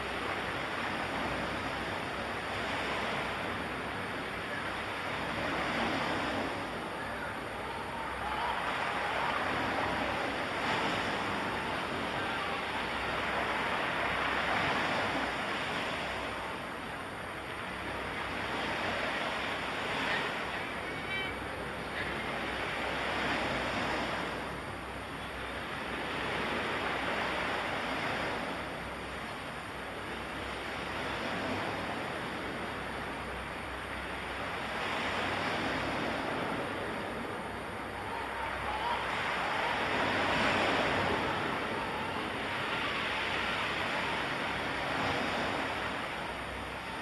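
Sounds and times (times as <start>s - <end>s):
waves washing in: 0.0s - 47.0s.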